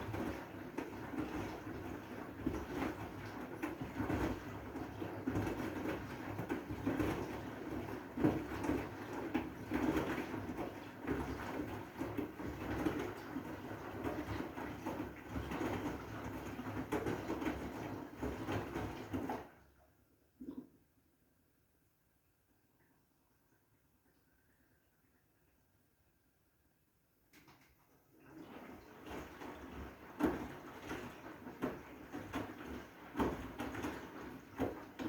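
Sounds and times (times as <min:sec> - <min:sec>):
washing machine sloshing laundry: 0:00.0 - 0:20.6, 0:27.4 - 0:35.0.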